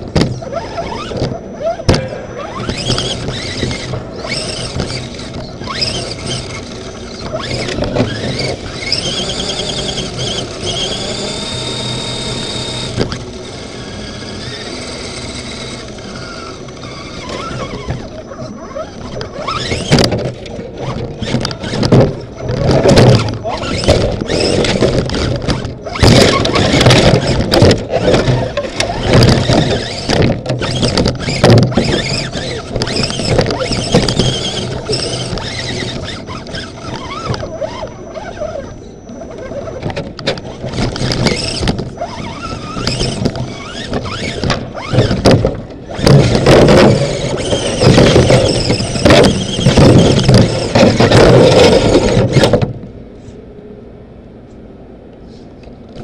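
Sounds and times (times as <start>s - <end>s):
knocks and rattles: 0.0s - 13.3s, 19.0s - 37.5s, 39.8s - 52.8s
electric motor and gears whining: 0.0s - 53.0s.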